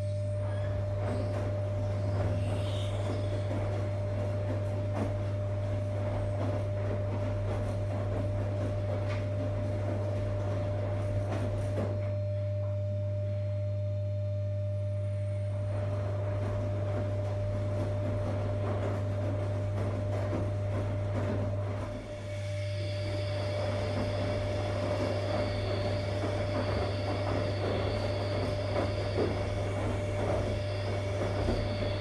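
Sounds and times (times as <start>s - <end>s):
washing machine motor hum: 0.0s - 32.0s
clothes tumbling in drum: 0.4s - 12.8s, 15.4s - 32.0s.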